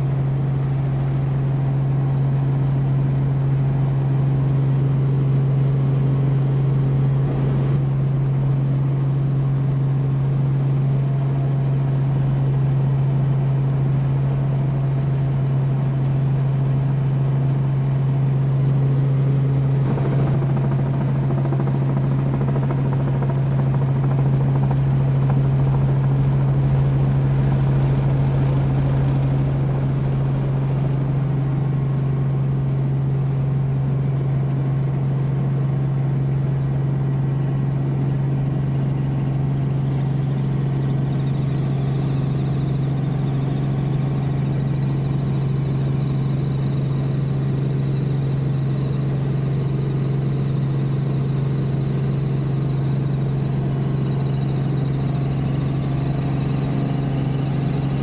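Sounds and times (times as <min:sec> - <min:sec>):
helicopter engine hum: 0:00.0 - 0:58.0
helicopter rotor beat: 0:00.0 - 0:58.0.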